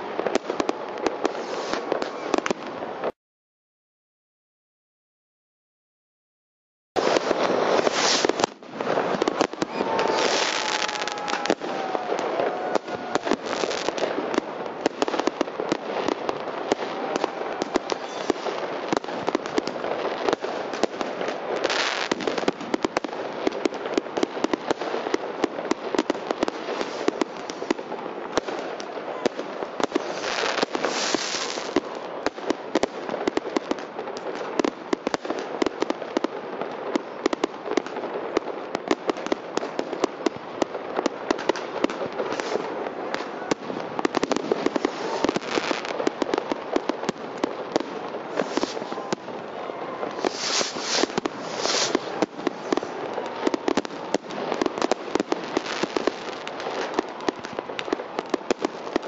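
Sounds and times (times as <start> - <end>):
fireworks and firecrackers popping: 0.0 - 3.2, 7.0 - 59.0.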